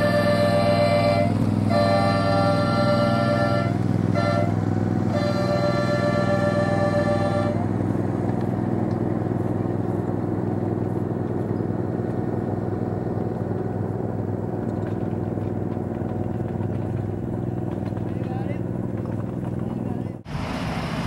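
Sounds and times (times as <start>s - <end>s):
miniature locomotive humming: 0.0s - 21.0s.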